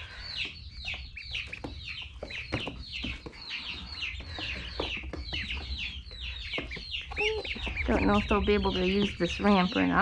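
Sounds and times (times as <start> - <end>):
ducklings peeping: 0.0 - 10.0.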